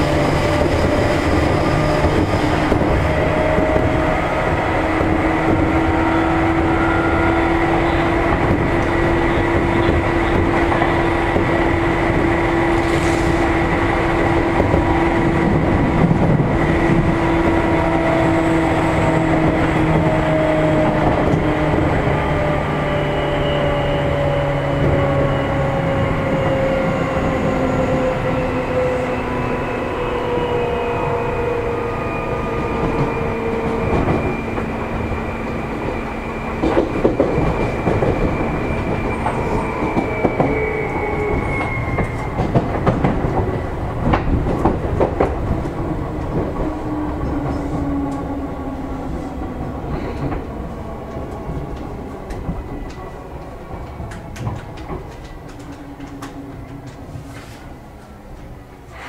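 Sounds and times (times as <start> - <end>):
train rolling noise: 0.0 - 59.0.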